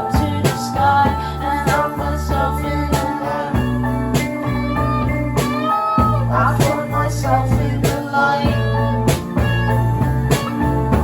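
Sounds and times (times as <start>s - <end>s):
bass line: 0.0s - 11.0s
electric guitar: 0.0s - 11.0s.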